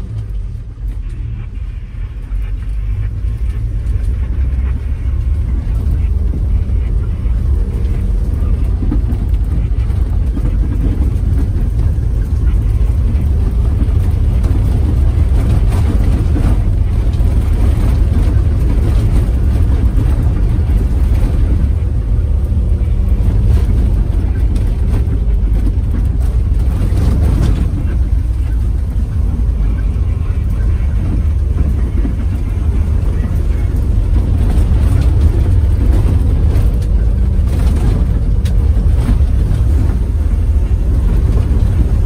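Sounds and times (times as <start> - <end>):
engine and tyre rumble: 0.0 - 42.0
rattles and knocks over bumps: 2.5 - 42.0.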